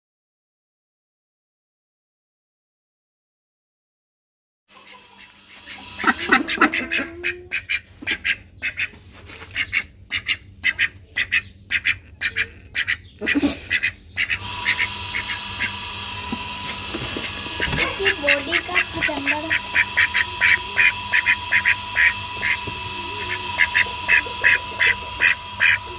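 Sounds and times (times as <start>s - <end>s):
ducks quacking: 4.7s - 25.9s.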